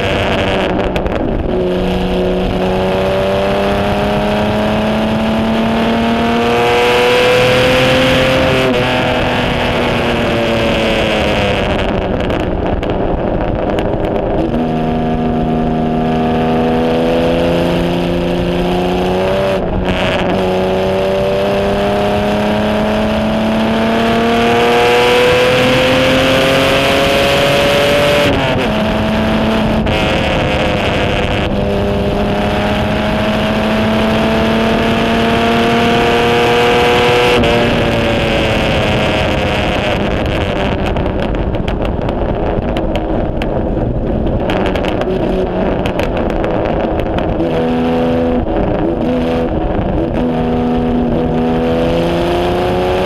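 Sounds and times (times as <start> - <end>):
racing car engine under load: 0.0 - 53.0.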